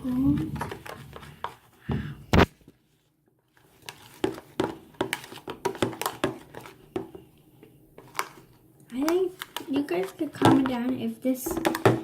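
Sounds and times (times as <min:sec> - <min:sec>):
slime squelching while stirred: 0:00.0 - 0:01.9, 0:02.6 - 0:12.0.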